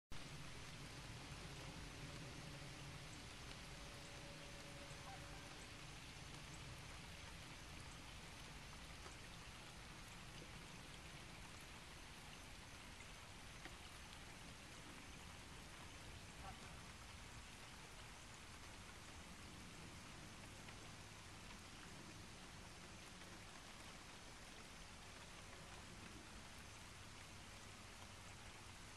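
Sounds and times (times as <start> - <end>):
rain falling on a pond: 0.1 - 28.9.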